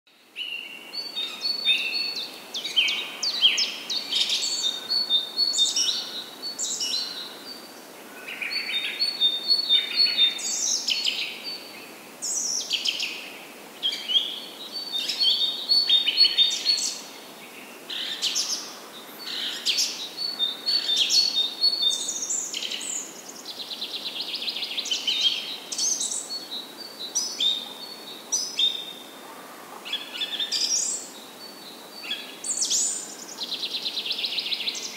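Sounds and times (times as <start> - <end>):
faint steady hiss: 0.1 - 34.9
birds singing: 0.4 - 34.9.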